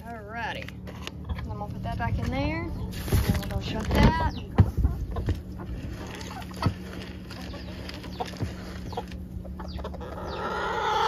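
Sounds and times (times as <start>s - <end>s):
chickens clucking: 0.0s - 11.0s
steady low hum: 0.0s - 11.0s.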